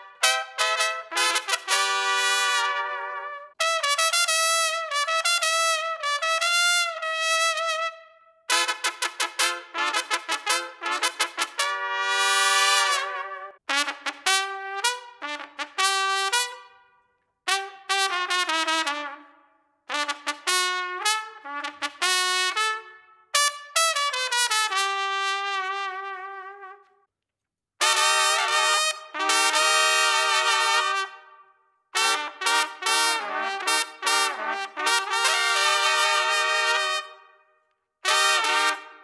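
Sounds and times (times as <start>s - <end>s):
solo trumpet: 0.0s - 16.9s, 17.5s - 27.1s, 27.8s - 39.0s.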